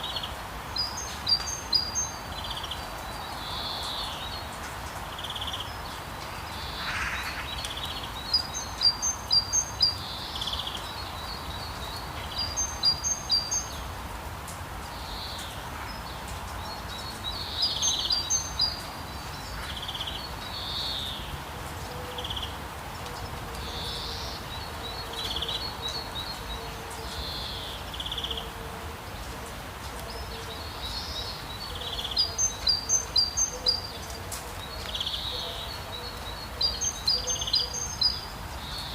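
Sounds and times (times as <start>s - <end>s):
songbirds chirping: 0.0s - 38.9s
steady rain: 0.0s - 38.9s.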